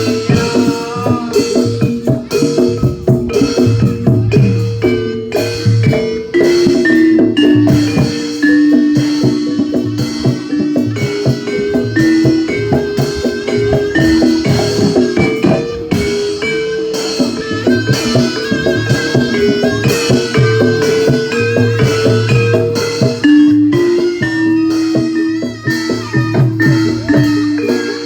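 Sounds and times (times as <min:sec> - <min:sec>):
drums: 0:00.0 - 0:28.0
tuned mallet percussion melody: 0:00.0 - 0:28.0.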